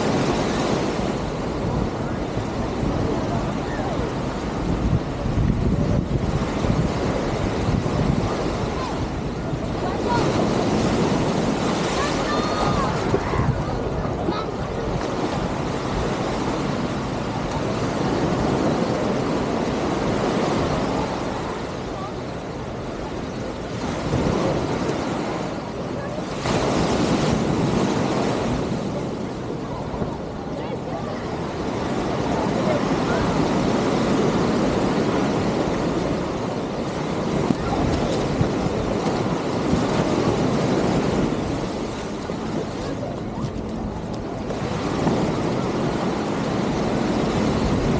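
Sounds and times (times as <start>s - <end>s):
surf washing up beach: 0.0s - 47.9s
wind buffeting microphone: 0.0s - 47.9s.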